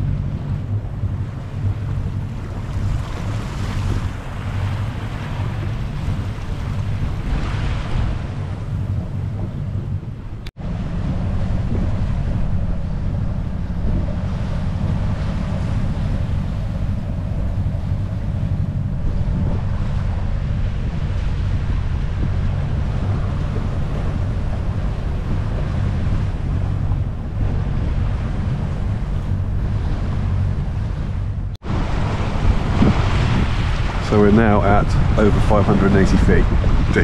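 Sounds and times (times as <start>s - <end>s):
choppy water slapping hull: 0.0s - 37.0s
wind buffeting microphone: 0.0s - 37.0s.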